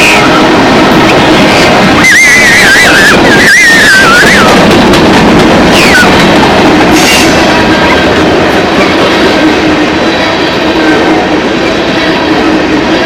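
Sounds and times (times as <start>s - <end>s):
train rumbling over rails: 0.0s - 13.0s.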